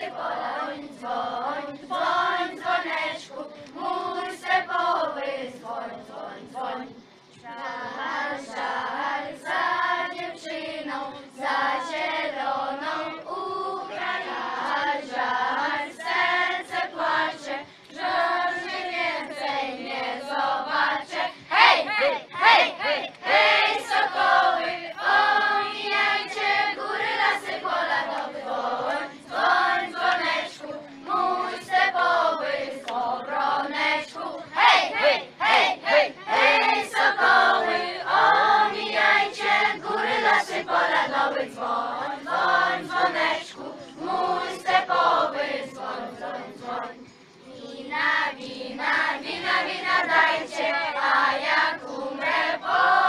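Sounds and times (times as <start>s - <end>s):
children's choir singing: 0.0s - 53.0s.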